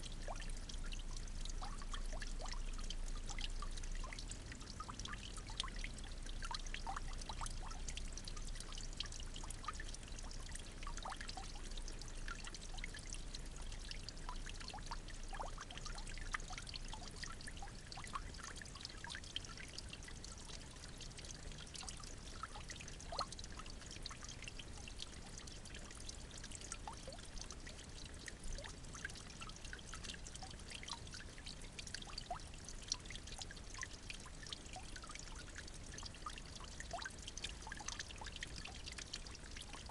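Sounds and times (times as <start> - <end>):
small ticks and drips: 0.0 - 39.9
trickle of running water: 0.0 - 39.9.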